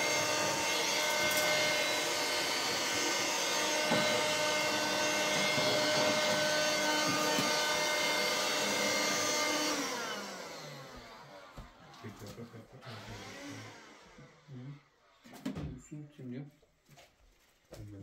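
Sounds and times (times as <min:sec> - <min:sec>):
electric motor appliance running: 0:00.0 - 0:15.0.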